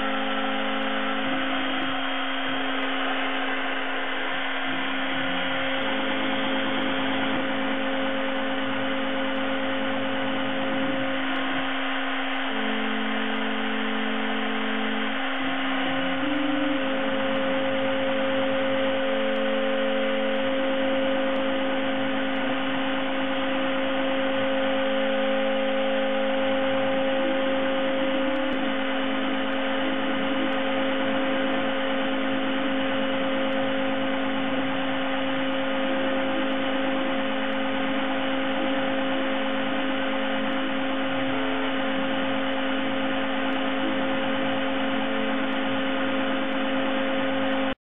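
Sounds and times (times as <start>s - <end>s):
cnc mill motor hum: 0.0s - 47.8s.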